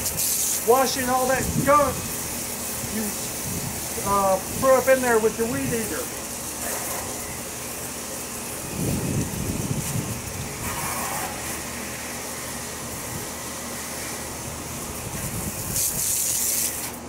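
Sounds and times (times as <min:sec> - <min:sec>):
hose nozzle spraying water: 0:00.0 - 0:17.0.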